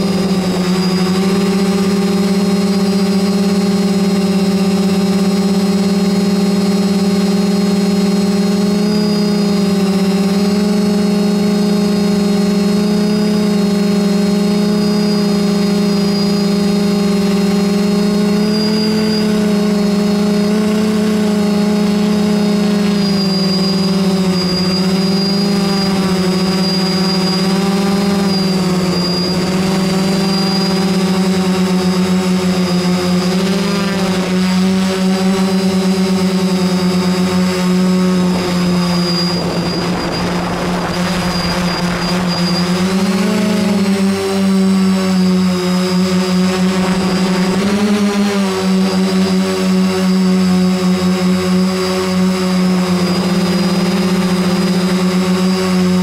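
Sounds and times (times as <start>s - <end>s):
drone motors and propellers humming: 0.0s - 56.0s.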